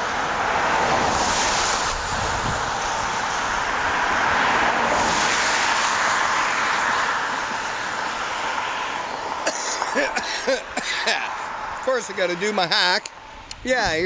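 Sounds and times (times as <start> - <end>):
vehicle passing: 0.0 - 13.7.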